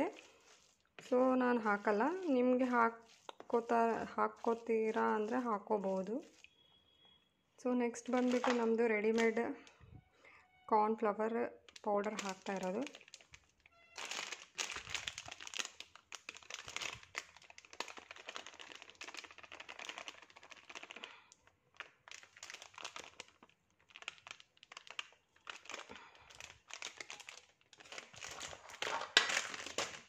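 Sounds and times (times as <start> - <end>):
plastic sachet crinkling: 0.0 - 6.6, 7.9 - 9.8, 11.6 - 30.0.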